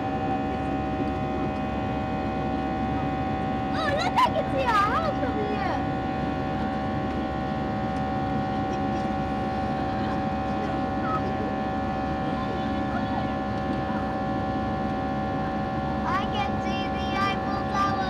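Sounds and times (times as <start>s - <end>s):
airliner cabin air and engine noise: 0.0s - 18.0s
steady droning tones: 0.0s - 18.0s.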